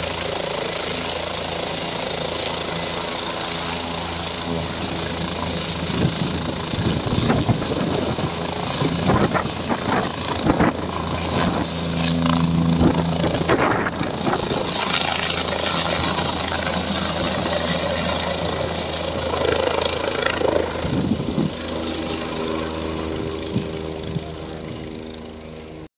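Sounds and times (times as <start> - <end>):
helicopter engine and rotor: 0.0 - 25.9.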